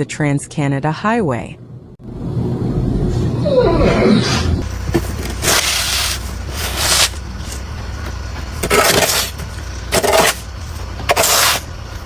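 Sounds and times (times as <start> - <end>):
vehicle low rumble: 1.6 - 12.0.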